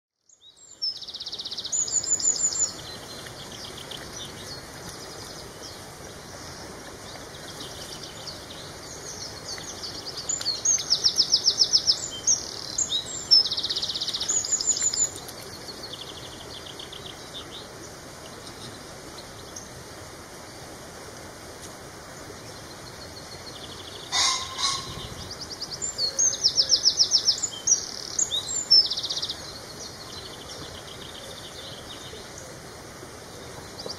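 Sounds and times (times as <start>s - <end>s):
faint outdoor hiss: 0.2s - 33.9s
songbirds trilling: 0.3s - 19.8s, 22.2s - 33.9s.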